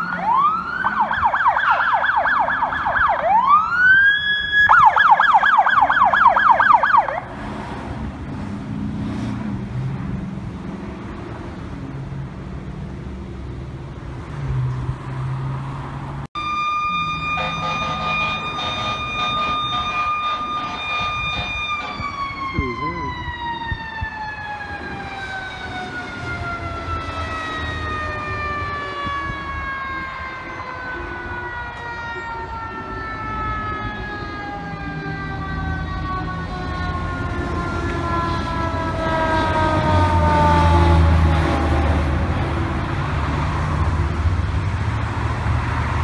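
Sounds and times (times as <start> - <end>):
fire engine siren wailing: 0.0 - 7.8, 16.3 - 46.0
passing traffic: 0.0 - 46.0
truck engine rumble: 0.0 - 46.0.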